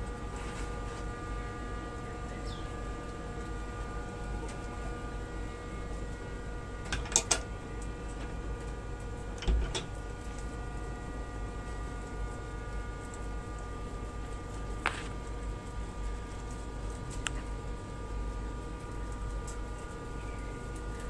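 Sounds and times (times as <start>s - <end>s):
steady multi-tone hum: 0.0s - 21.0s.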